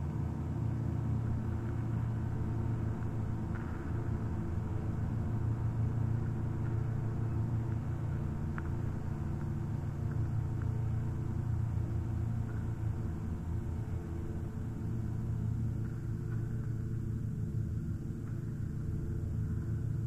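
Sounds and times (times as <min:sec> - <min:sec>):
low droning rumble: 0:00.0 - 0:20.0.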